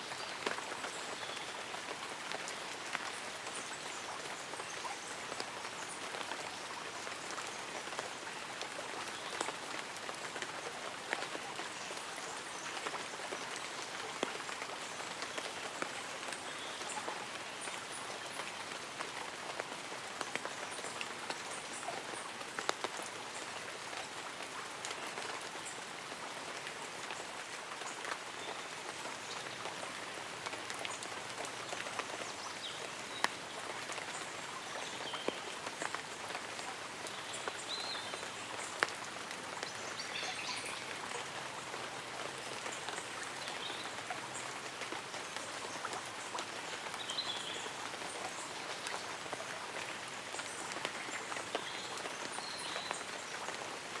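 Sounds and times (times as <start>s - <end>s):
light rain on leaves and umbrella: 0.0s - 54.0s.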